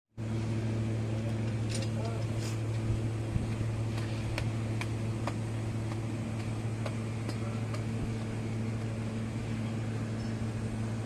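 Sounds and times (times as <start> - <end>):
low machine hum: 0.2 - 11.0.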